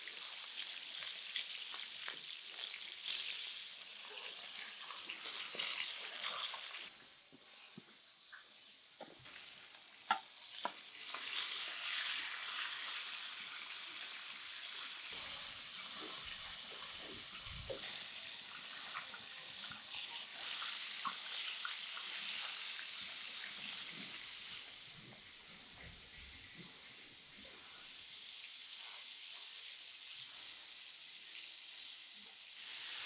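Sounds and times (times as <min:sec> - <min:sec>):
chicken sizzling in a pan: 0:00.0 - 0:33.0.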